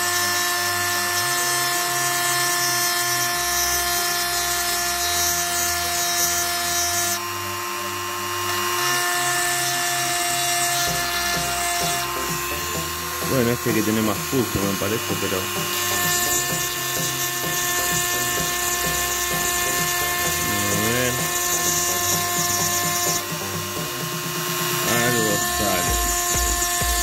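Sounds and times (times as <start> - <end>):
bit grinding glass: 0.0 - 27.0
rotary tool motor whining: 0.0 - 27.0.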